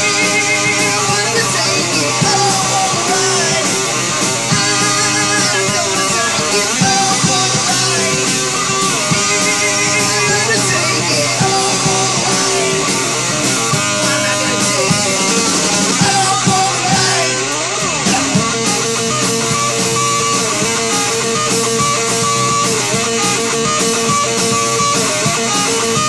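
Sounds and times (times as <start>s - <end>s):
punk rock band playing: 0.0s - 26.0s.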